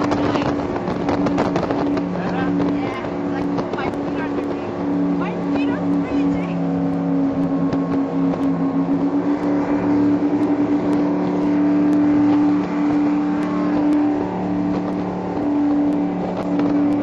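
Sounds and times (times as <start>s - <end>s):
powerboat engines droning: 0.0s - 17.0s.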